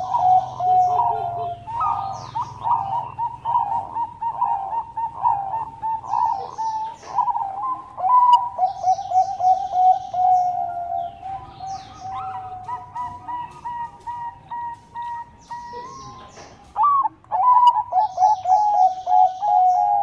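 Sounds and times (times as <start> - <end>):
dove cooing: 0.0 - 20.0
small birds chirping: 0.0 - 20.0.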